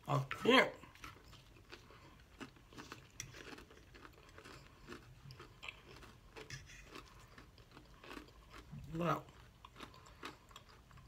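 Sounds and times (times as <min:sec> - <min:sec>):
person chewing food: 0:00.8 - 0:11.0.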